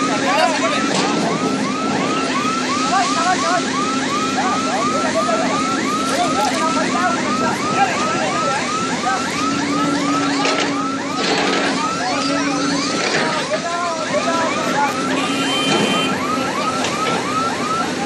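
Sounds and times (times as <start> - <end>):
crane warning alarm chirps: 0.5 - 18.0.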